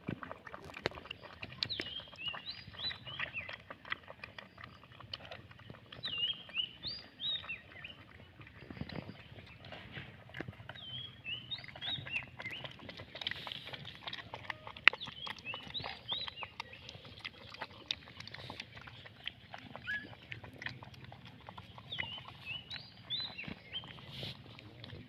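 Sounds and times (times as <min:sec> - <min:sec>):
puppies lapping milk: 0:00.0 - 0:25.0.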